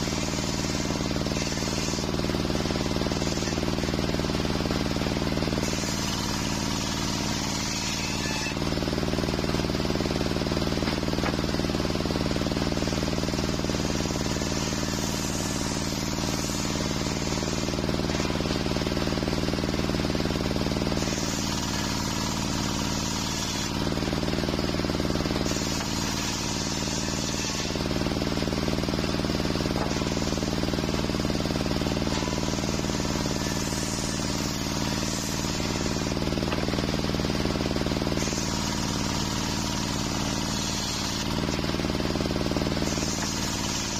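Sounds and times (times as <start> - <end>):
circular saw ripping boards: 0.1 - 19.2, 20.9 - 43.9.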